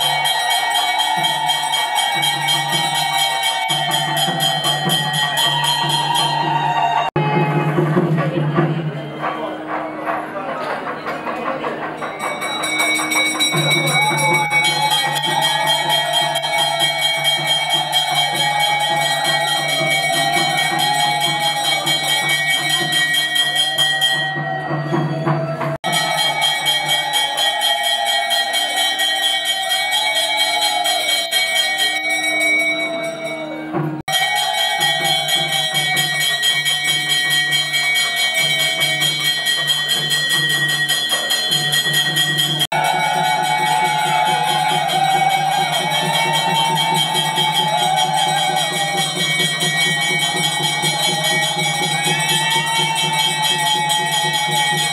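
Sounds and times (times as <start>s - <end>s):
bells ringing rapidly: 0.0s - 54.9s.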